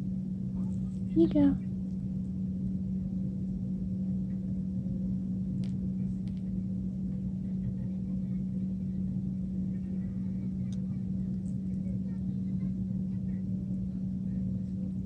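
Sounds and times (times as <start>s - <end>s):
faint rumble: 0.0s - 15.0s
low hum: 0.0s - 15.0s.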